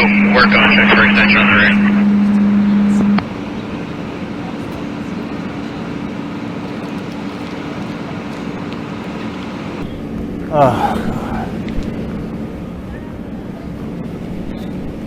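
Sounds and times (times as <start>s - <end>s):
fire engine idling: 0.0s - 14.5s.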